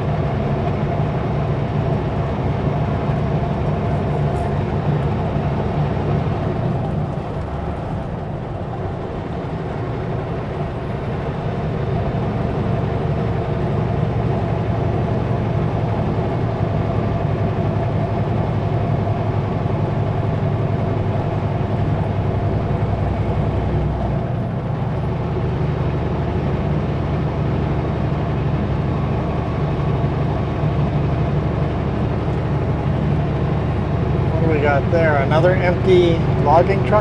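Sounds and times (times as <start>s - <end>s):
truck diesel engine droning: 0.0s - 37.0s.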